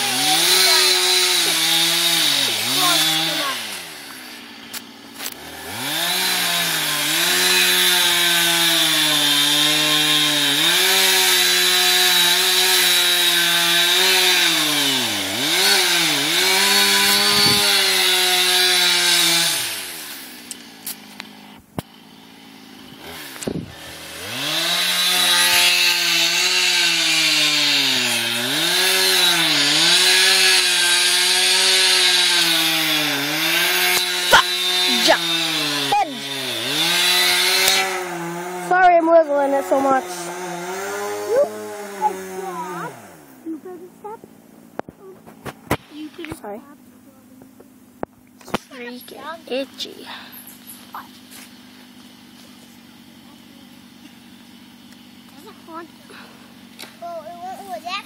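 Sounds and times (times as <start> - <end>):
chainsaw cutting wood: 0.0 - 43.6, 44.8 - 46.5, 48.1 - 58.0
chainsaw idling: 0.0 - 58.0.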